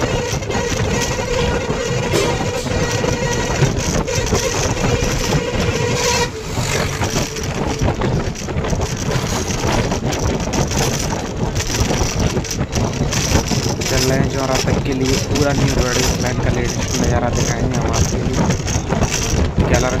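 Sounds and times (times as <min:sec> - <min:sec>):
vehicle road and wind noise: 0:00.0 - 0:20.0.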